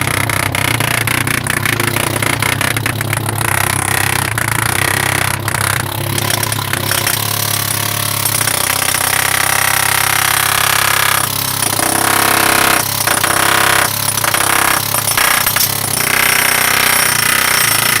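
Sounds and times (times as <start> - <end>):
low engine drone: 0.0 - 17.6
jackhammer hammering on steel: 0.0 - 18.0.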